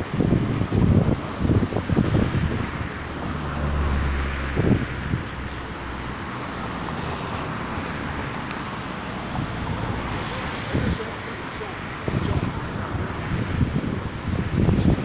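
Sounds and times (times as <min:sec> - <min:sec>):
distant road traffic: 0:00.0 - 0:15.0
low engine hum: 0:00.0 - 0:15.0
outdoor rushing noise: 0:00.0 - 0:15.0.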